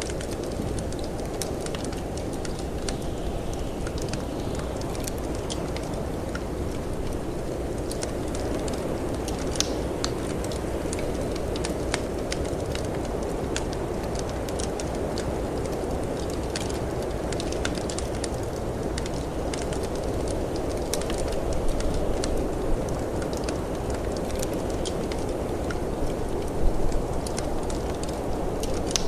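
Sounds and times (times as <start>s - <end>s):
storm wind rumble: 0.0s - 29.0s
wood fire crackling and popping: 0.0s - 29.0s.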